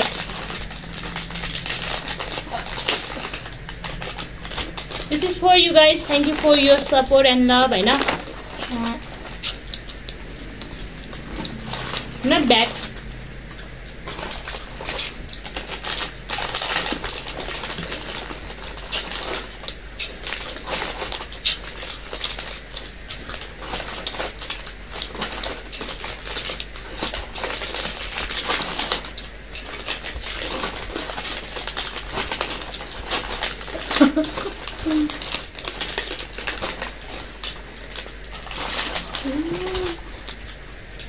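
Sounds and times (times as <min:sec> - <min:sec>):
crunchy snack chewing: 0:00.0 - 0:07.0, 0:07.7 - 0:41.0.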